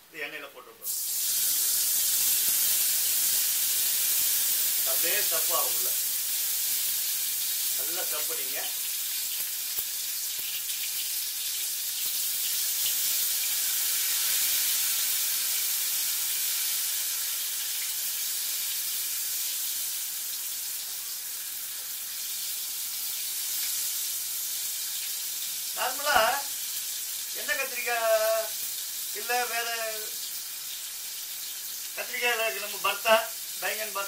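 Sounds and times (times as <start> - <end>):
food sizzling in hot oil: 0.8 - 34.0.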